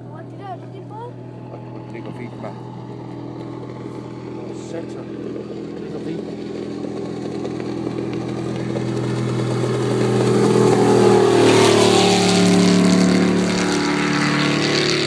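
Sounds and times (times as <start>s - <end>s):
speedboat engine passing: 0.0s - 15.0s
hull and spray rushing on water: 0.7s - 15.0s.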